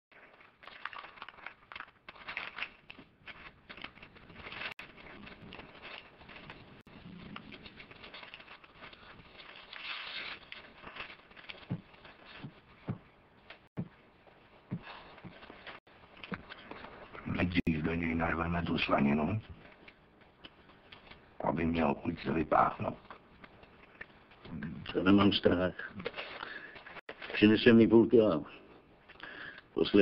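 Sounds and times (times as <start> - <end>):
paper rustling and crackling: 0.1 - 17.6, 18.6 - 28.0.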